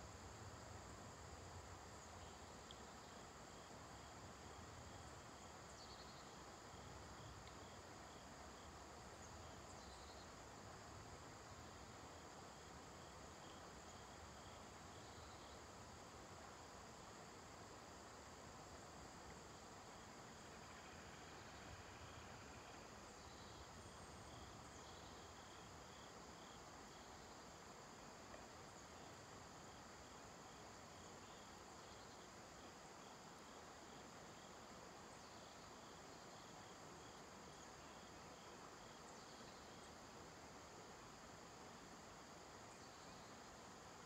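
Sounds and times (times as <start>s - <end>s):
faint outdoor hiss: 0.0s - 44.0s
insect chirping: 0.0s - 44.0s.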